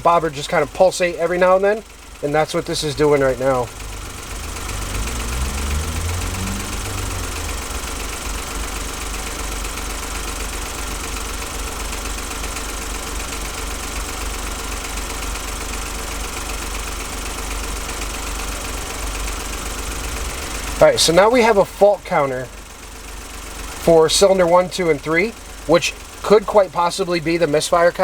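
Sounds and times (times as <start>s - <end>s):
car engine idling with misfire: 0.0s - 28.0s.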